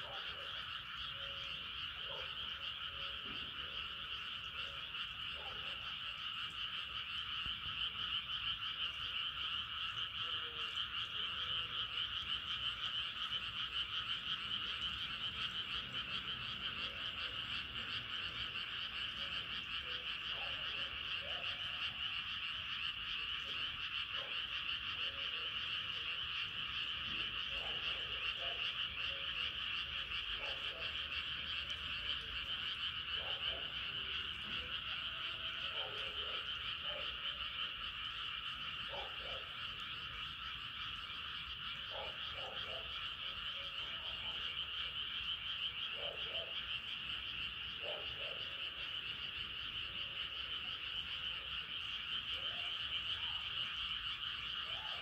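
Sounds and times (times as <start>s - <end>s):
frog chorus trilling: 0.0s - 55.0s
low frog croaks: 0.0s - 55.0s.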